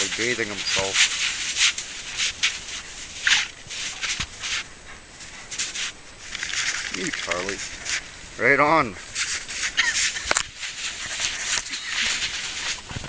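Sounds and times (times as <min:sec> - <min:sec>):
dog rolling in crunching snow: 0:00.0 - 0:13.0.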